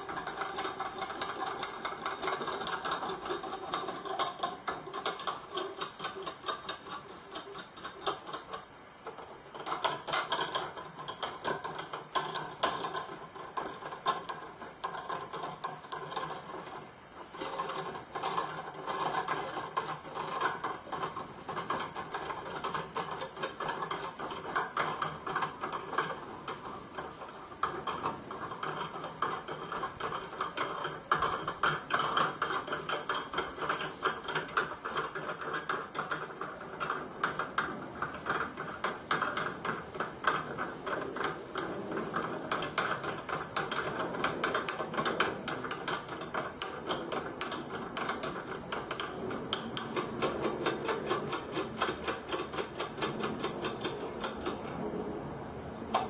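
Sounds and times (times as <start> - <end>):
rapid metallic tapping: 0.0 - 54.8.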